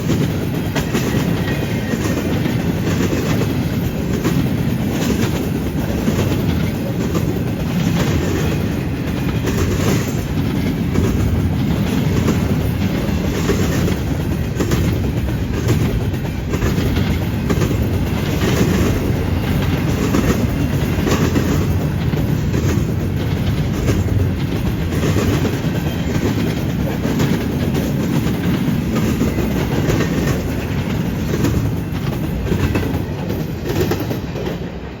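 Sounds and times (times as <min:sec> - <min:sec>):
freight train rumbling: 0:00.0 - 0:35.0
wheels clacking over rail joints: 0:00.0 - 0:35.0.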